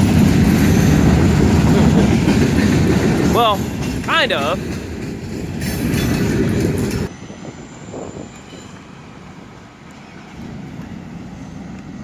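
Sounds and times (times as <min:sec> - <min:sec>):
freight train cars rumbling: 0:00.0 - 0:12.0.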